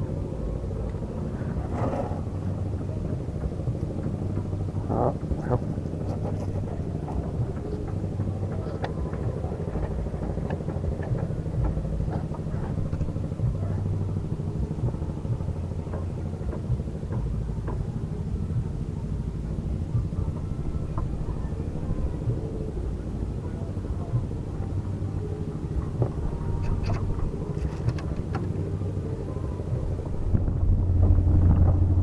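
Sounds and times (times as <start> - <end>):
small engine rumbling: 0.0 - 32.0.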